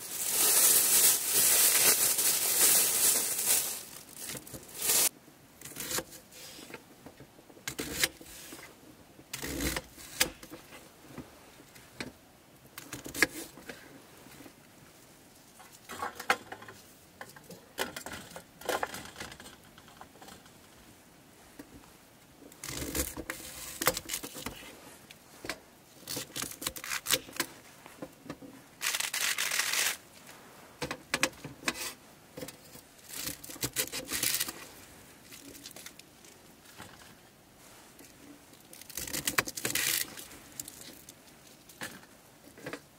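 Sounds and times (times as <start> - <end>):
crinkling and rustling: 0.0 - 8.8, 15.3 - 42.9.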